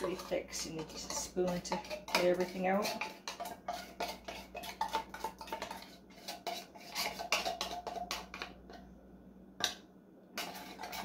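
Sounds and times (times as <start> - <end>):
spoon scraping inside tin can: 0.0 - 8.5, 10.4 - 11.0.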